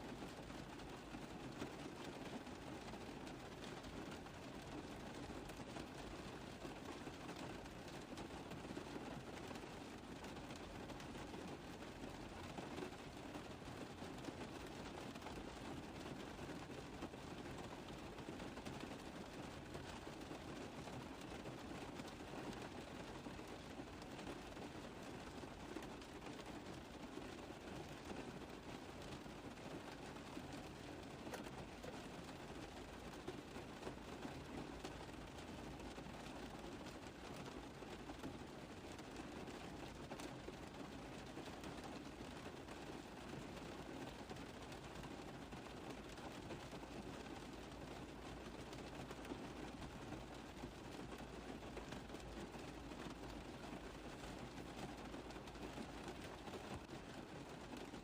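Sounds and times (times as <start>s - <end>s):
rain drumming on a car roof: 0.0s - 58.0s.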